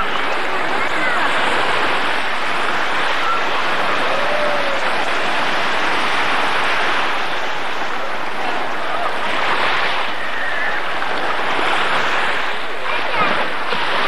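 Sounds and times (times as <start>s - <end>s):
sea surf breaking: 0.0s - 14.0s.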